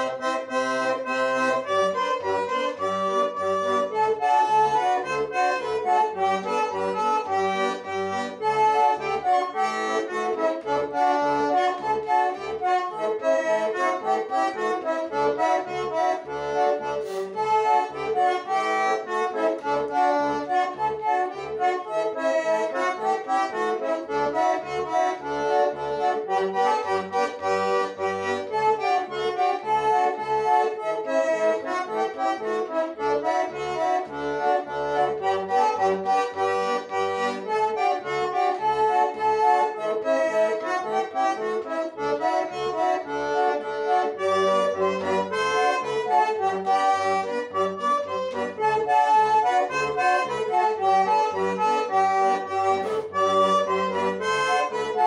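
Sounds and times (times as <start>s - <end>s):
bandoneon playing a foxtrot: 0.0s - 55.0s.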